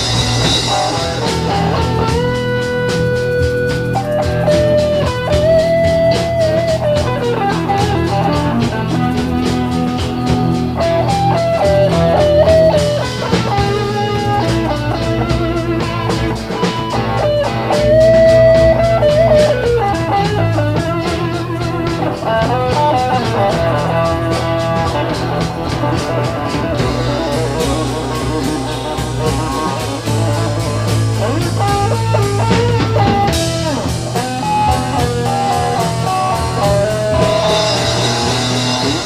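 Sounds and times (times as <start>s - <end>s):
blues-rock electric guitar music: 0.0s - 39.0s.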